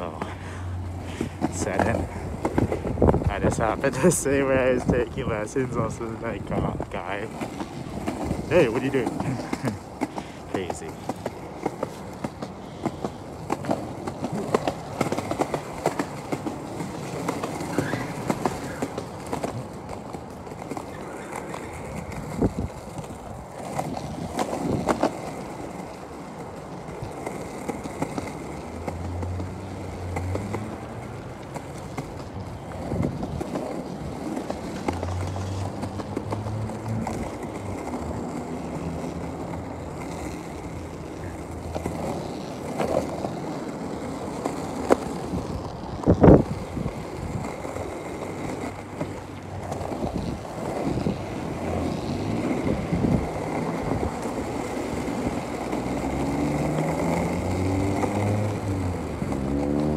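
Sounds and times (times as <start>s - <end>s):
skateboard wheels rumbling: 0.0s - 59.9s
skateboard clicks: 0.1s - 59.9s.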